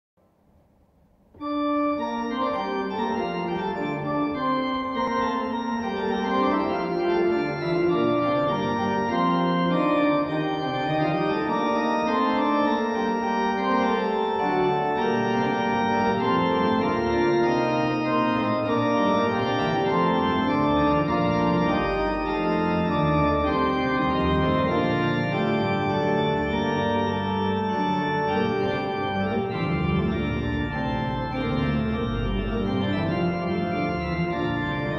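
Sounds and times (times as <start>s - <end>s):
deep organ bass notes: 1.4s - 34.9s
pipe organ playing: 1.4s - 34.9s.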